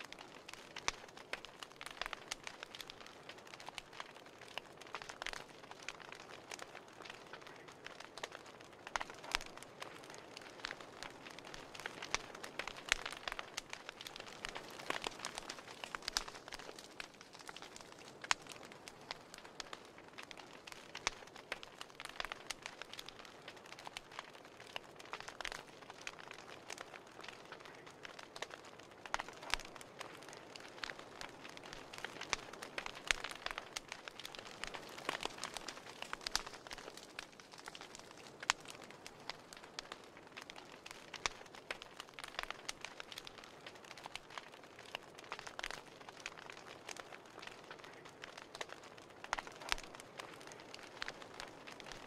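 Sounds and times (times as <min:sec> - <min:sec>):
burning paper crackling: 0:00.0 - 0:52.0.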